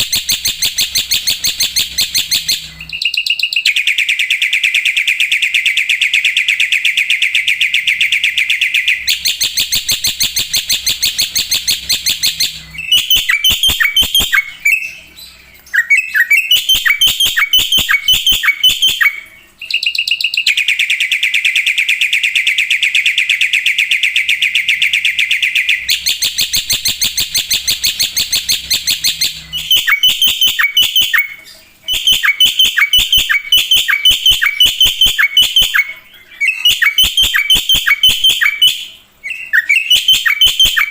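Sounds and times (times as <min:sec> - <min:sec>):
bird harsh chattering song: 0:00.0 - 0:22.4, 0:23.0 - 0:40.9.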